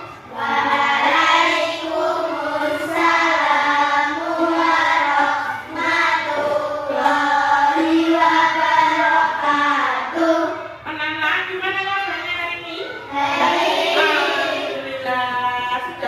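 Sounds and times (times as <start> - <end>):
children singing in unison: 0.0 - 10.9, 13.0 - 15.1.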